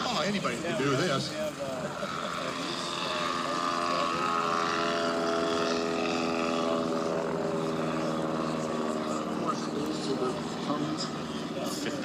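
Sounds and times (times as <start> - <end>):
propeller airplane engine running: 0.0 - 12.0.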